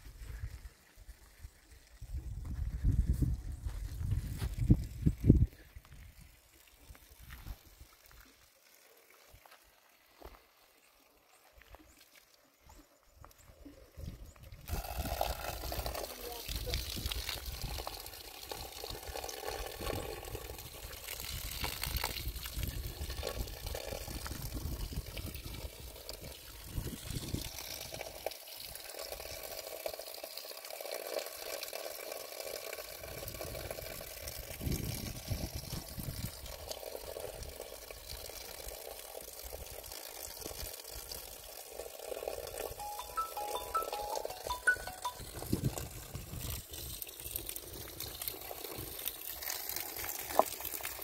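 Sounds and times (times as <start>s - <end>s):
water pouring from a pipe: 0.0s - 13.0s, 13.9s - 51.0s.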